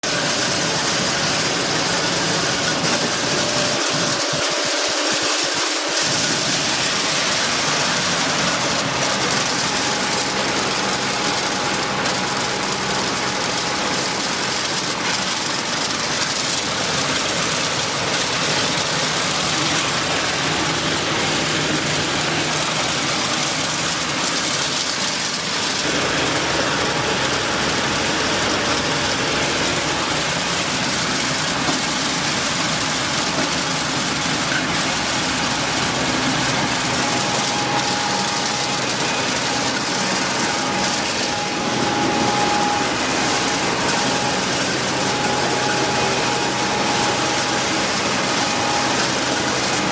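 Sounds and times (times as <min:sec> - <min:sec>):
milling machinery running: 0:00.0 - 0:49.9.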